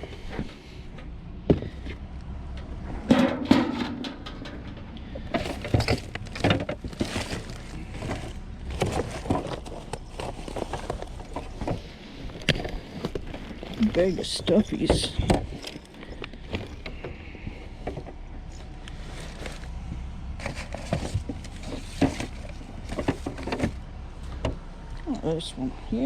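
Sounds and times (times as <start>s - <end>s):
junk being rummaged: 0.0s - 25.4s.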